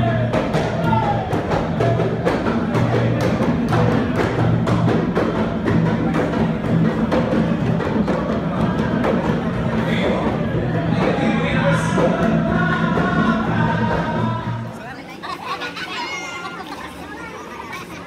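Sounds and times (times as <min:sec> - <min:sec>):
sharp percussive beats: 0:00.0 - 0:14.7
men chanting: 0:00.0 - 0:14.8.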